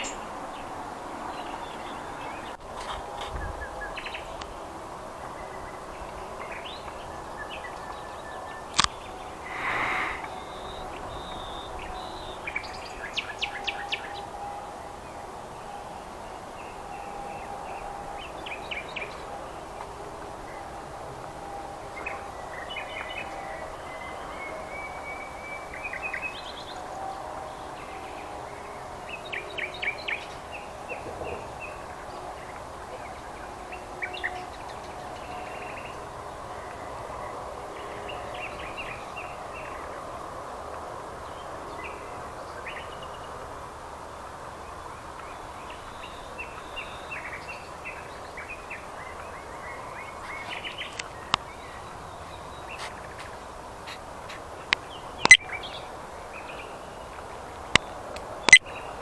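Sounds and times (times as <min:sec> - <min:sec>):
songbirds chirping and singing: 0:00.0 - 0:37.1, 0:44.8 - 0:59.0.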